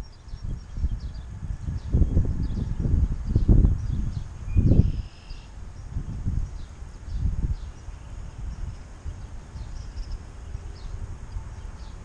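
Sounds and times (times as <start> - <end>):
faint high bird chirps: 0.0 - 5.9, 6.5 - 12.0
wind buffeting microphone: 0.0 - 12.0.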